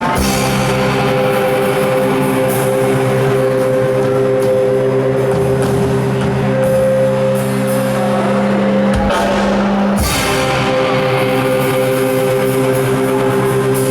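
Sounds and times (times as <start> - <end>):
band holding a chord: 0.0 - 13.9
cymbal strikes: 0.0 - 13.9.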